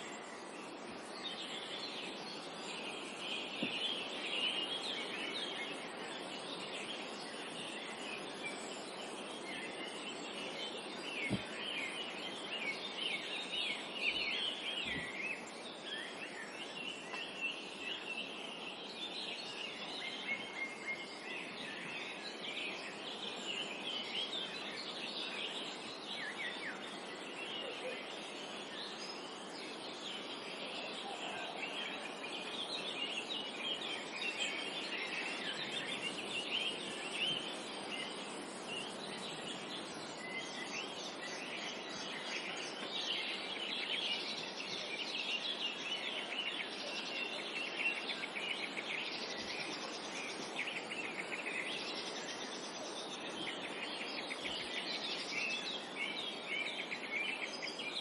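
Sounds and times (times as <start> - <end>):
forest ambience hiss: 0.0 - 58.0
songbirds chirping and trilling: 0.0 - 58.0.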